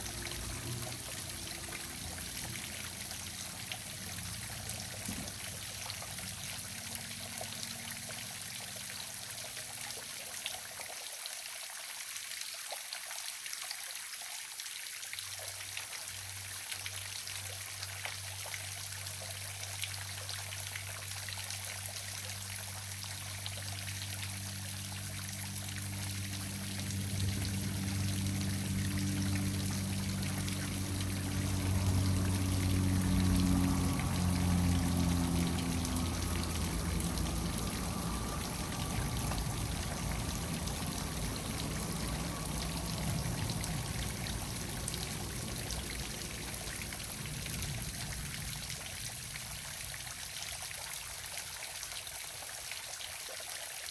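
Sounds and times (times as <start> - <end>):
low steady hum: 0.0 - 10.0, 16.3 - 51.6
small waterfall splashing: 0.0 - 53.9.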